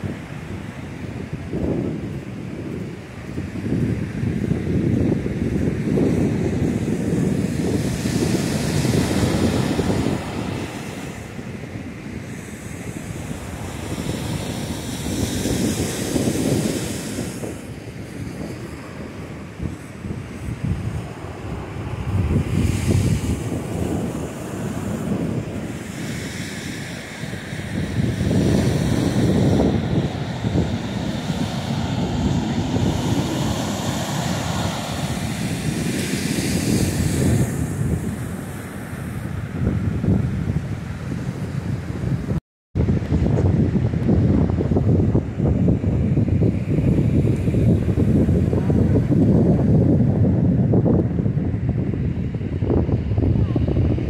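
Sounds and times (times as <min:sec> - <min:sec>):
ocean surf: 0:00.0 - 0:54.0
wind buffeting microphone: 0:00.0 - 0:54.0.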